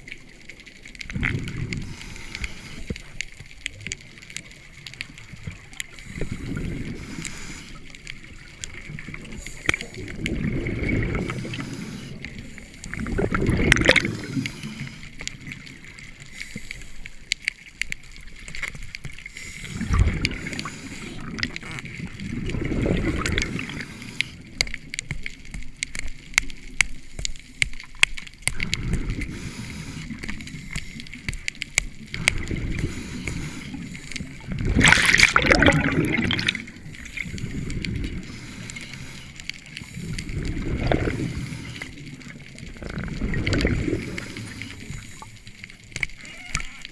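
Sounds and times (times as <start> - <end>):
crackle of small clicks: 0.0 - 46.9
underwater bubbles gurgling: 0.0 - 46.9.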